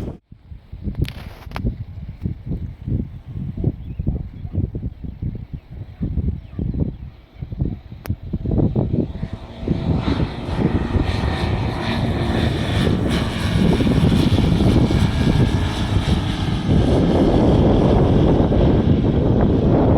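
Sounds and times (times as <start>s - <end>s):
propeller aircraft engine: 0.0s - 19.9s.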